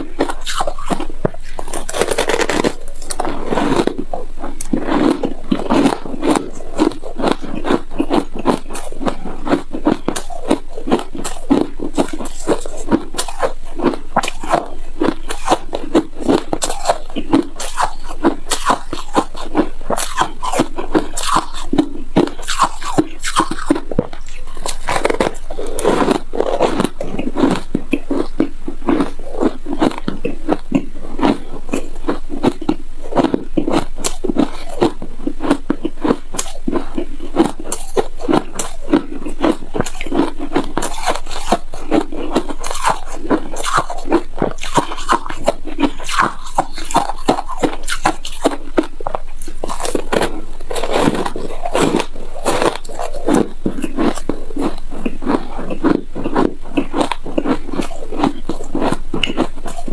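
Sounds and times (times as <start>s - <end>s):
chewing crunchy ice: 0.0s - 59.9s.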